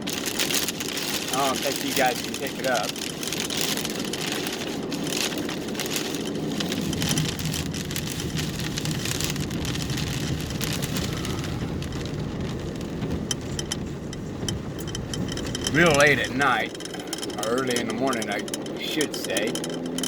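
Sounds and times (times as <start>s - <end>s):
rain drops hitting a car: 0.0s - 20.0s
road noise: 0.0s - 20.0s
low rumble: 2.2s - 18.8s.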